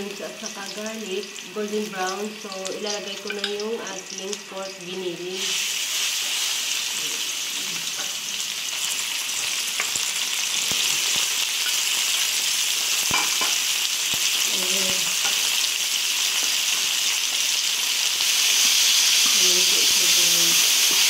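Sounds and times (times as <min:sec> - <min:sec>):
meat sizzling in hot oil: 0:00.0 - 0:21.0.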